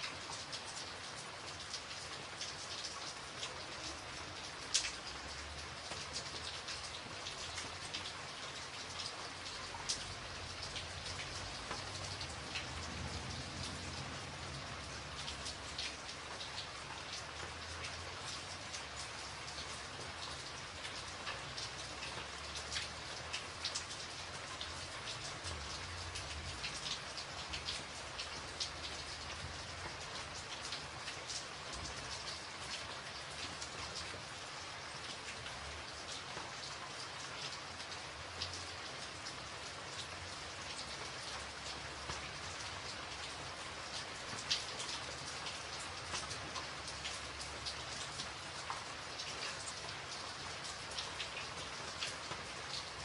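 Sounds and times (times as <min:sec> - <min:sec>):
raindrops pattering: 0:00.0 - 0:53.0
steady rainfall: 0:00.0 - 0:53.0.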